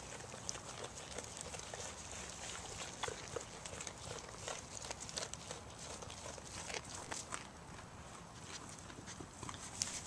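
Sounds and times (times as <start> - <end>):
sheep chewing leaves: 0.0 - 10.0.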